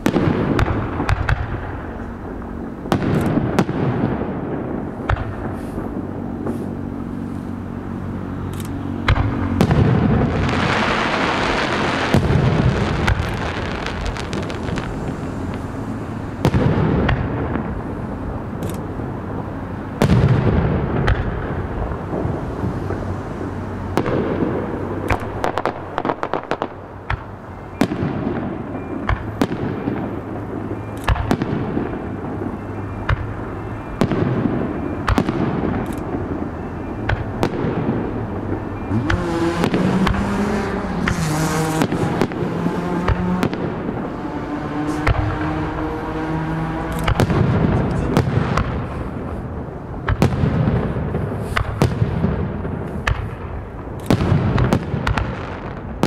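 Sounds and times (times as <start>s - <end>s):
fireworks bangs with echoes: 0.0s - 56.0s
fireworks crackling: 0.0s - 56.0s.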